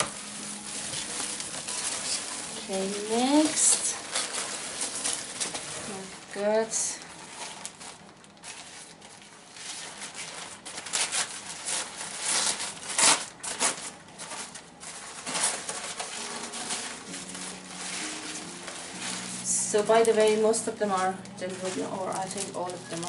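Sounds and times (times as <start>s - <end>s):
packaging crackles: 0.0s - 23.0s
plastic packaging crinkling: 0.0s - 23.0s.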